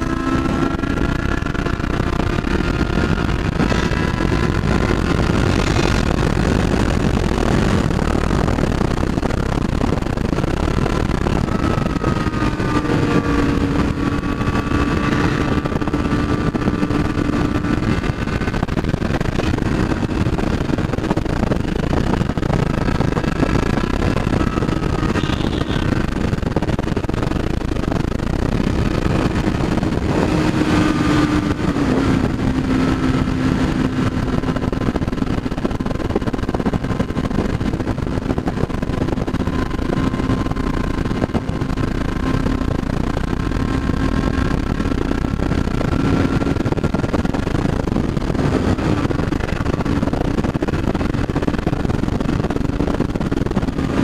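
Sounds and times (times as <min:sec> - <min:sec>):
motorcycle engine cruising: 0:00.0 - 0:54.0
wind noise: 0:00.0 - 0:54.0.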